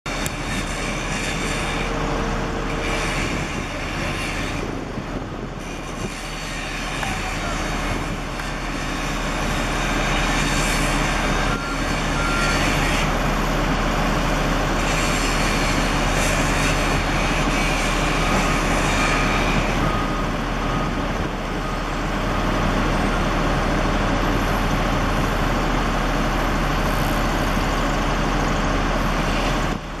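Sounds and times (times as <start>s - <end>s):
construction site noise: 0.0s - 30.0s
diesel engine running: 0.0s - 30.0s.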